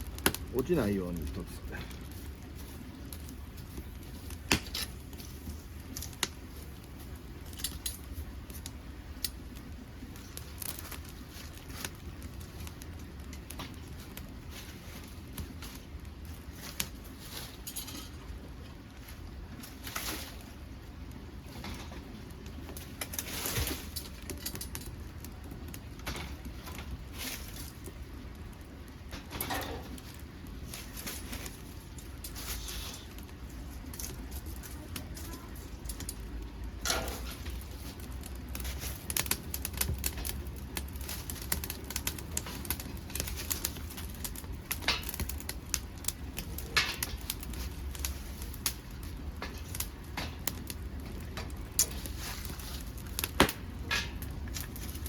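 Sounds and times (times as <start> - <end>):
stove low rumble: 0.0 - 55.0
wood fire crackling and popping: 0.0 - 55.0.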